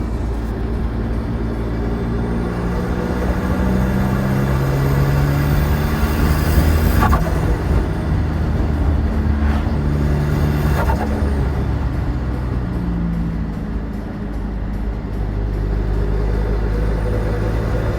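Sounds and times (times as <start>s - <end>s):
diesel engine revving: 0.0s - 17.9s.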